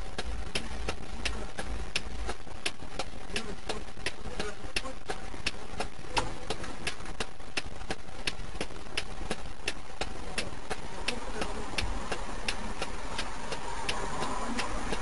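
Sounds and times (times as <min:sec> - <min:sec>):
sharp ticking: 0:00.0 - 0:15.0.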